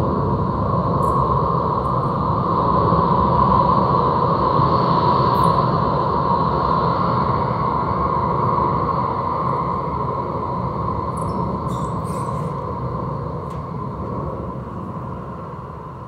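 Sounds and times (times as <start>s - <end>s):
constant hum: 0.0s - 16.0s
electronic rumbling drone: 0.0s - 16.0s.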